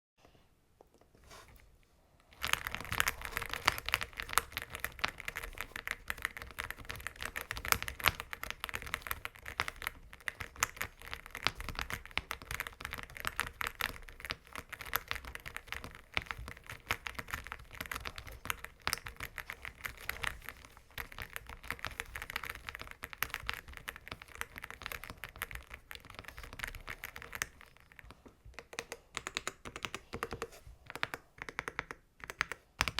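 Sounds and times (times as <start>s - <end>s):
mechanical keyboard typing: 2.4s - 32.9s.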